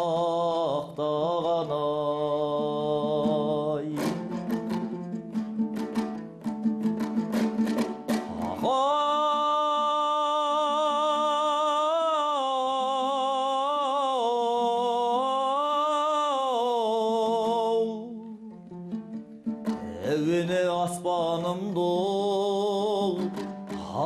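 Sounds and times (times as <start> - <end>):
plucked string instrument strumming: 0.0 - 24.0.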